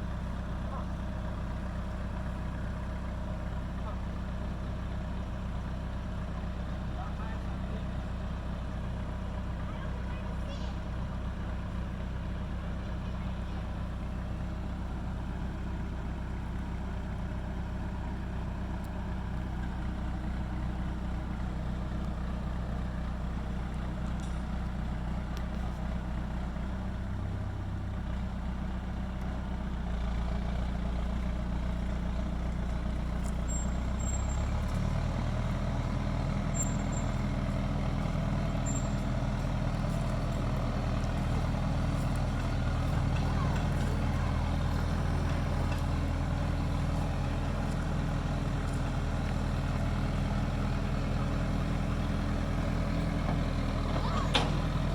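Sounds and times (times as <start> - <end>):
crawler engine running: 0.0 - 54.9.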